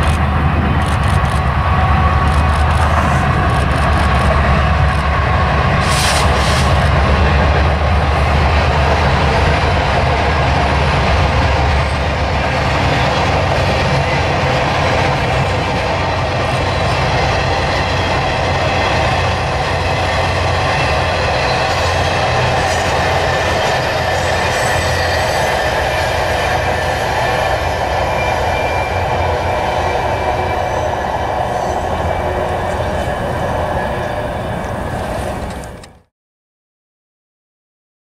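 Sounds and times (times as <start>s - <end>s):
train wheels rumbling: 0.0s - 36.1s.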